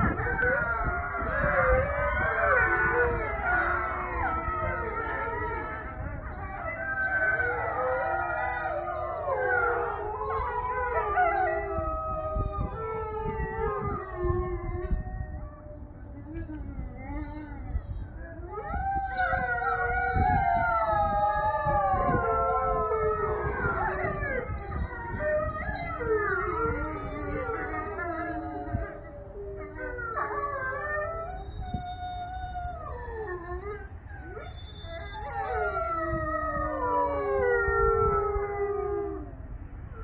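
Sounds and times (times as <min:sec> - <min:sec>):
pack of canines howling: 0:00.0 - 0:40.0.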